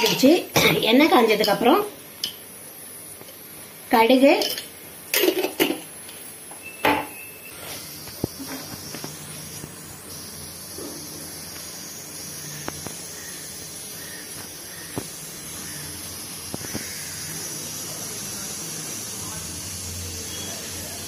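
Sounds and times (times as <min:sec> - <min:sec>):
seeds sizzling in hot oil: 0:00.0 - 0:21.0.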